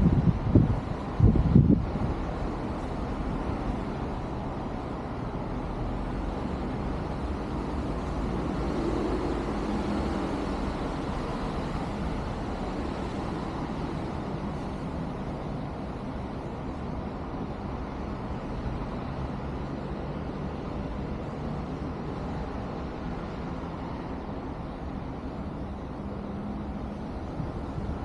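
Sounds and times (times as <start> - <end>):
road traffic rumble: 0.0 - 28.0
vehicle engine hum: 0.0 - 28.0.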